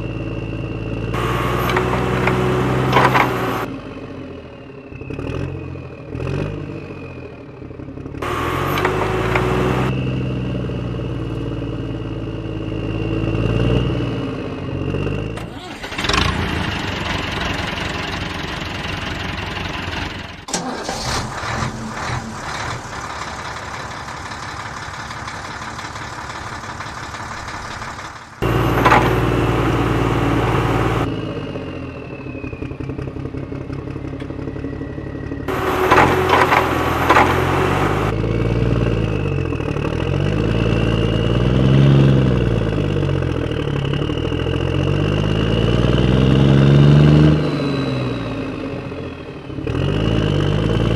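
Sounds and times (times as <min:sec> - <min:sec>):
engine revving: 0:00.0 - 0:50.9
vehicle engine running: 0:00.0 - 0:50.9.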